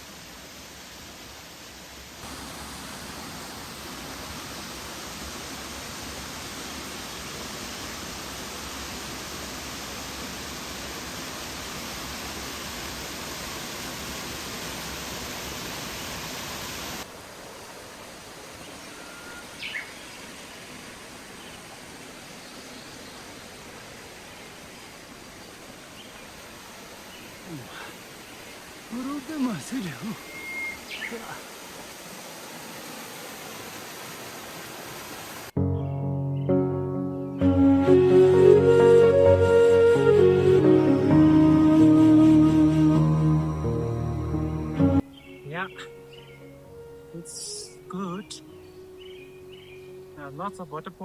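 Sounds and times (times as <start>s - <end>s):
waterfall rushing: 0.0s - 35.6s, 37.4s - 45.8s.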